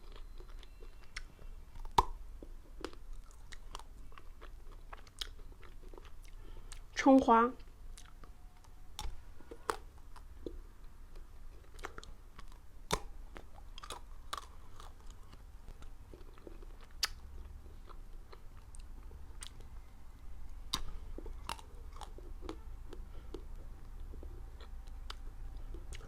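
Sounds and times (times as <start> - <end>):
chewing and crunching ice: 0.0 - 7.0, 7.6 - 19.8, 20.5 - 26.0.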